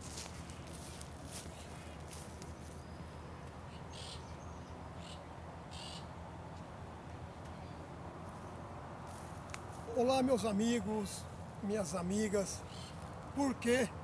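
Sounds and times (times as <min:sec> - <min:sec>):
low outdoor hum: 0:00.0 - 0:14.0.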